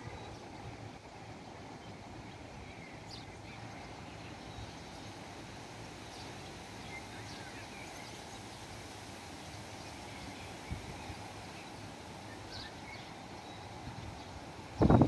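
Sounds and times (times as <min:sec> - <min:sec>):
swallows chirping faintly: 0:00.0 - 0:14.8.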